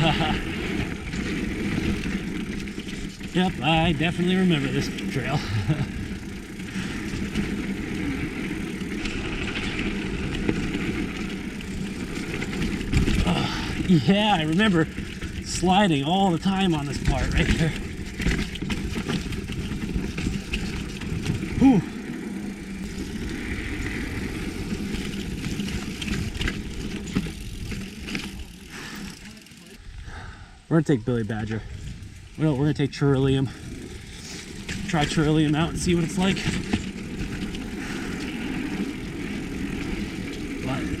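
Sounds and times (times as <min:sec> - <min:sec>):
bike tyre noise: 0:00.0 - 0:41.0.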